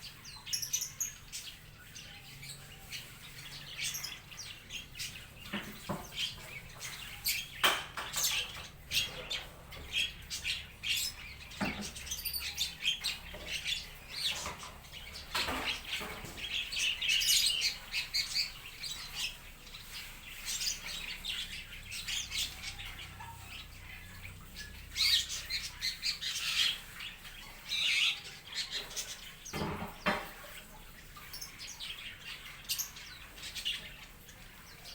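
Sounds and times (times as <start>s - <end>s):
birds chirping and calling: 0.0s - 34.9s.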